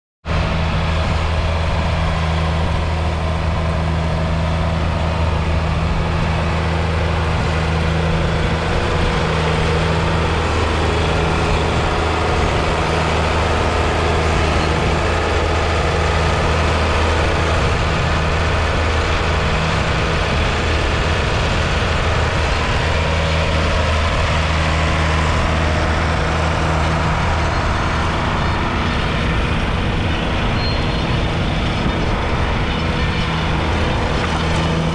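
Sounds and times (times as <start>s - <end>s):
tractor diesel engine droning: 0.2s - 34.9s.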